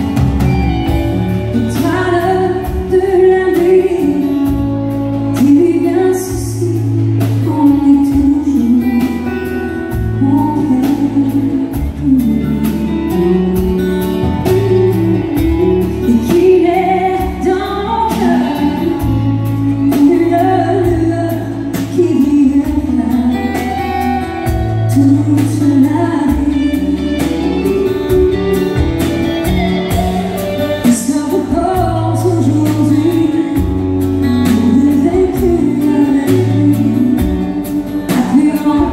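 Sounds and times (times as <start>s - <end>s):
woman singing into microphone: 0.0s - 28.8s, 29.9s - 38.9s
country band playing: 0.0s - 38.9s.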